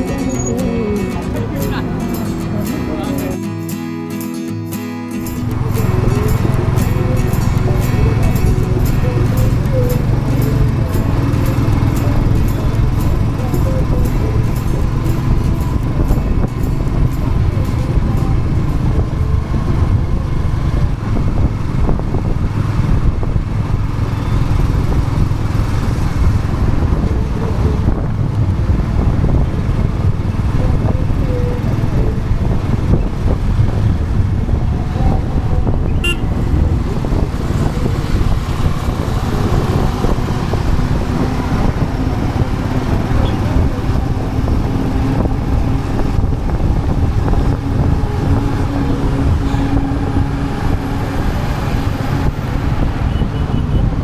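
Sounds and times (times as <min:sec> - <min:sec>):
road and wind noise: 0:00.0 - 0:54.0
motorcycle engine running: 0:05.2 - 0:54.0.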